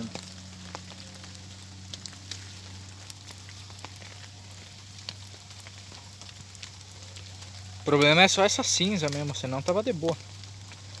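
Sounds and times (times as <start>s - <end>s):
campfire crackling and popping: 0.0s - 11.0s
fire hissing: 0.0s - 11.0s.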